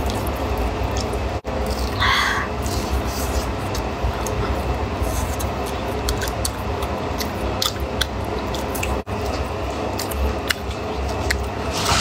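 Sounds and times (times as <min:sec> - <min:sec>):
chewing and mouth clicks: 0:00.0 - 0:11.7.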